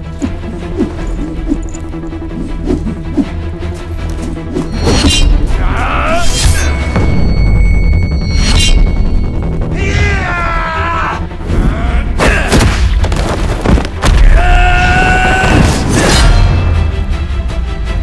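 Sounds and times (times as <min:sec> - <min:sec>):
dramatic film score: 0:00.0 - 0:18.0.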